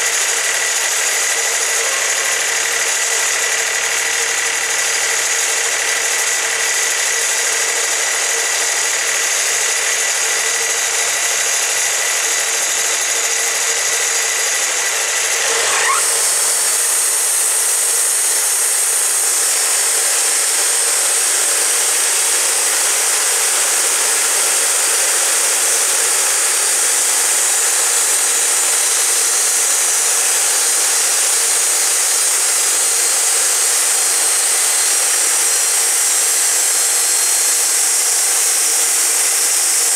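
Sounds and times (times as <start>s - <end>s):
band blade sawing log: 0.0s - 39.9s
sawmill engine revving: 0.0s - 39.9s.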